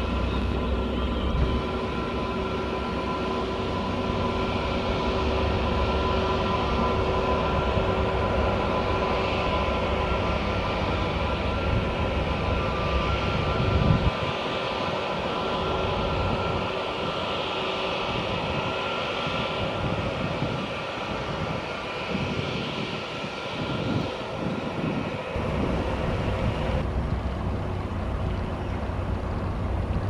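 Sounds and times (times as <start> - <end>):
jet engines whining: 0.0 - 30.0
wind buffeting microphone: 0.0 - 30.0.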